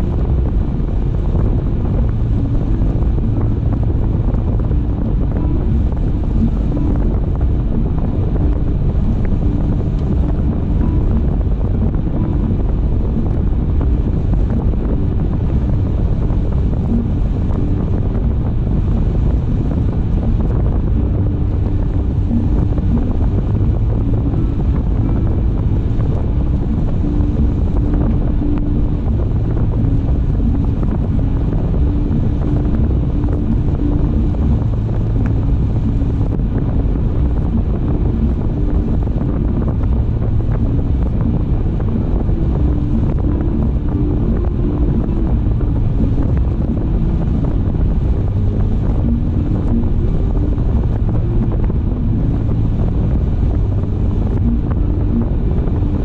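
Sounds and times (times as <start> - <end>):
faint engine hum: 0.0 - 56.0
tyre and wind noise: 0.0 - 56.0.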